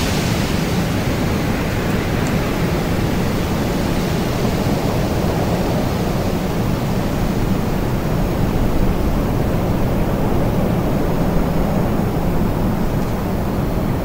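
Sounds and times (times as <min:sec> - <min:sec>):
wind blowing steadily: 0:00.0 - 0:14.0.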